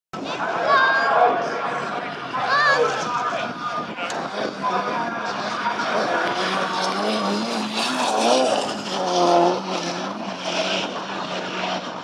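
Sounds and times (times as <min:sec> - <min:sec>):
racing car engines running: 0:00.2 - 0:12.0.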